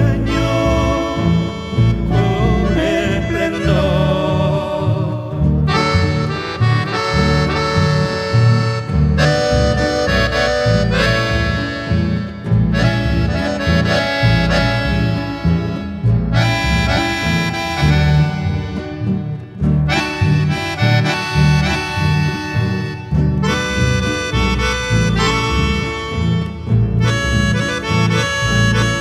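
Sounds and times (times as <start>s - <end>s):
accordion melody: 0.0s - 29.0s
guitar accompaniment: 0.0s - 29.0s
rhythmic bass line: 0.0s - 29.0s.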